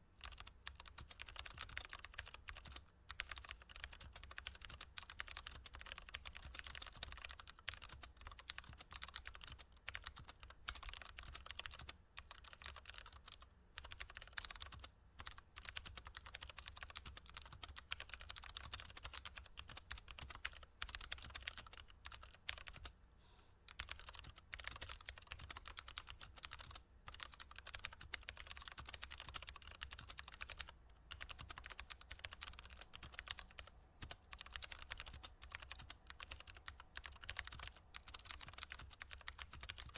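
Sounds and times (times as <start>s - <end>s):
computer keyboard typing: 0.2s - 22.9s, 23.7s - 39.9s.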